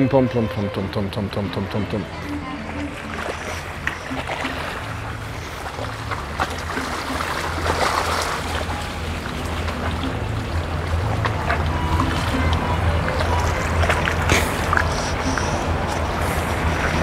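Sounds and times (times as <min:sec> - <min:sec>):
motorboat engine humming: 0:00.0 - 0:17.0
water sloshing: 0:00.0 - 0:17.0.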